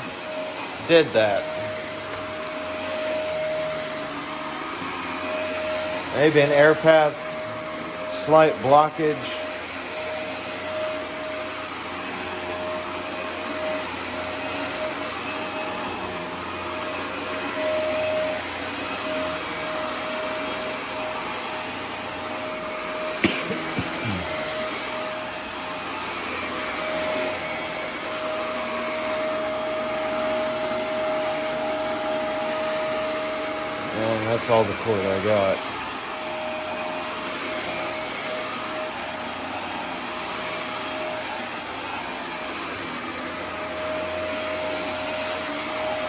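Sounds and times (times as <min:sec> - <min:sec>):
upright vacuum running: 0:00.0 - 0:46.0.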